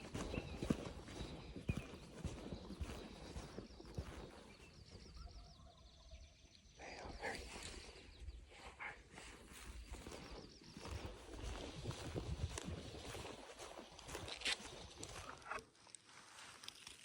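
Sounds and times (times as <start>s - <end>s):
footsteps on dry ground: 0.0s - 6.2s, 6.8s - 17.0s.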